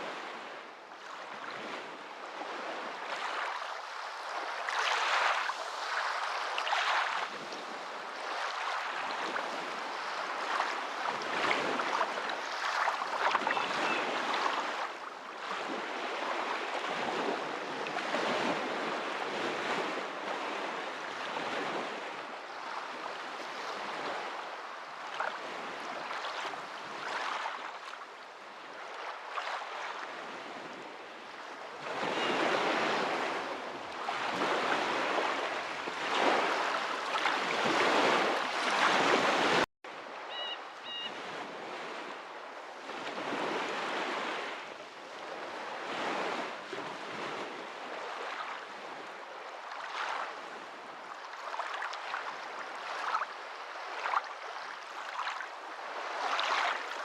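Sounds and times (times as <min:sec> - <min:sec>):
waves washing in: 0:00.0 - 0:57.0.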